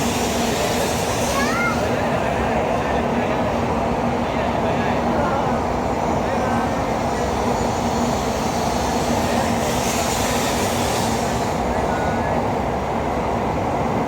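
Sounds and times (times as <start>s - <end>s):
high-speed train rushing: 0.0s - 14.0s.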